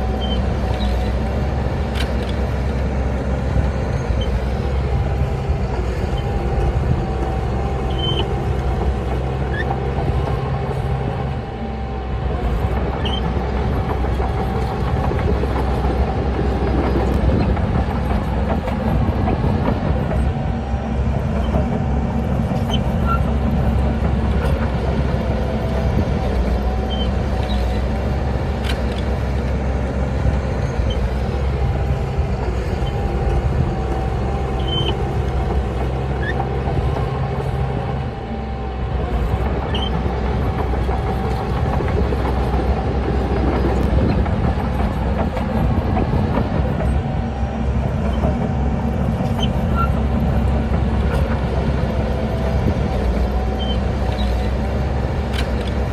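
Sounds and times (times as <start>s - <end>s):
bulldozer diesel engine: 0.0s - 55.9s.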